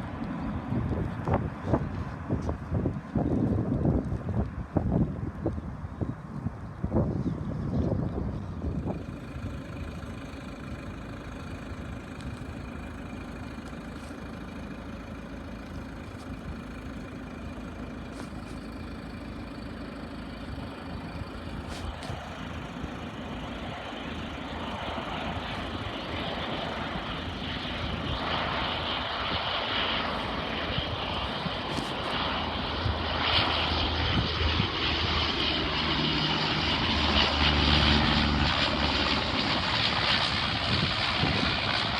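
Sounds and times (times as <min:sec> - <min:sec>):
airliner engines rushing: 0:00.0 - 0:41.9.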